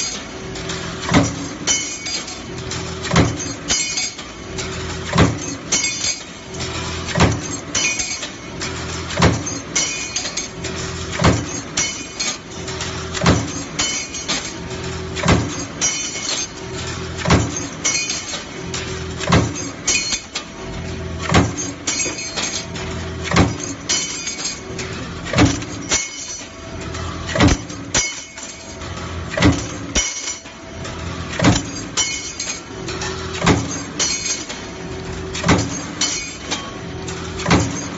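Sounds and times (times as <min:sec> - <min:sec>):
metal stamping impact: 0:00.0 - 0:37.9.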